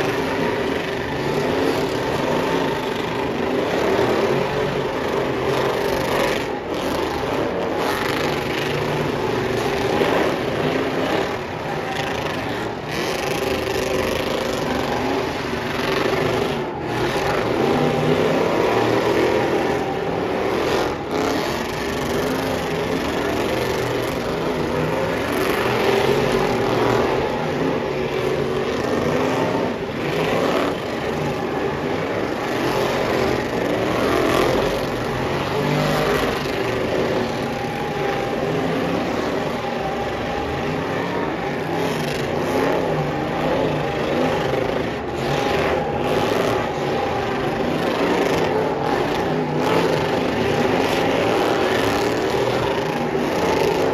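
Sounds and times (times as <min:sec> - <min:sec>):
truck engines revving hard: 0:00.0 - 0:53.9
tyres spinning on asphalt: 0:00.0 - 0:53.9.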